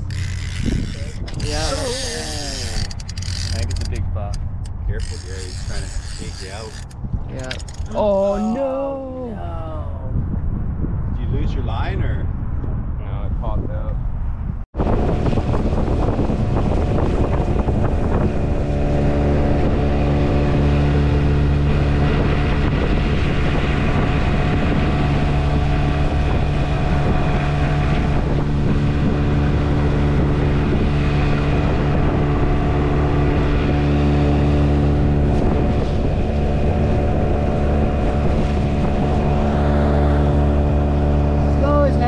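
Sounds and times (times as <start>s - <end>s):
outboard motor droning: 0.0s - 9.5s, 14.8s - 42.0s.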